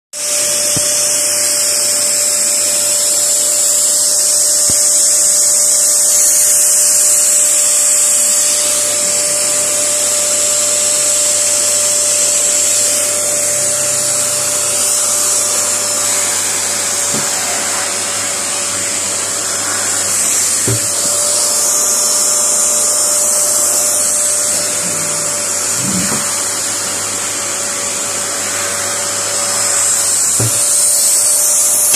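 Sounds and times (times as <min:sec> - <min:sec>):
vacuum cleaner running: 0:00.1 - 0:31.9.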